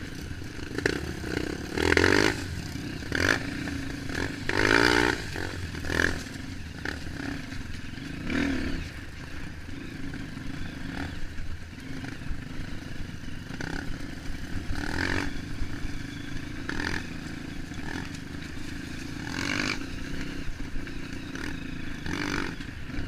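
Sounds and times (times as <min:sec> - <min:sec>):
bike rattling: 0:00.0 - 0:23.0
motorcycle engine running: 0:00.0 - 0:23.0.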